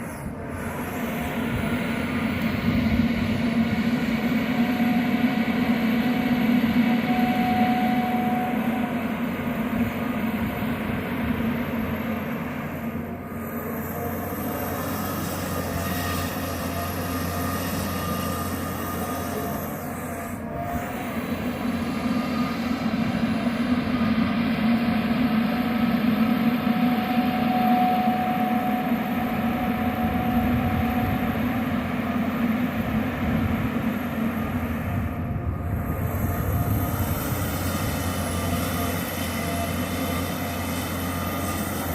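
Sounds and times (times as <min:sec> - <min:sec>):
excavator diesel engine and hydraulics: 0:00.0 - 0:41.9
faint whine: 0:01.5 - 0:14.7, 0:18.0 - 0:41.9.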